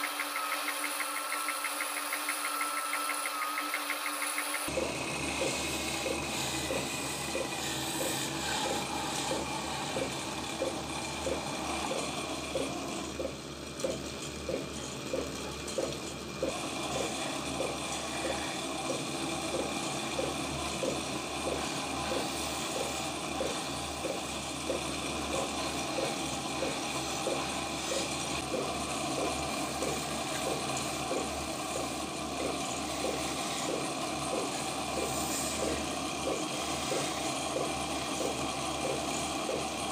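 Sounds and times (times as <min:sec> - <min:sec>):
lathe chisel cutting wood hiss: 0:00.0 - 0:13.3, 0:16.4 - 0:39.9.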